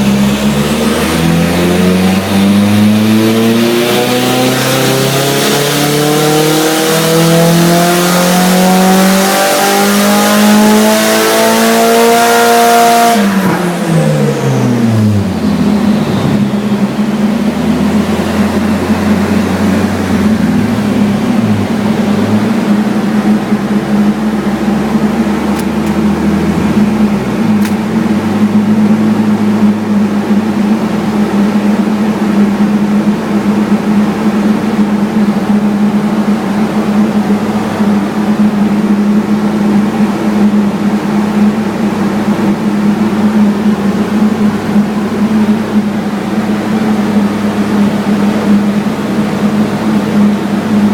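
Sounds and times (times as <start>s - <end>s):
turbocharged car engine running: 0.0s - 50.9s.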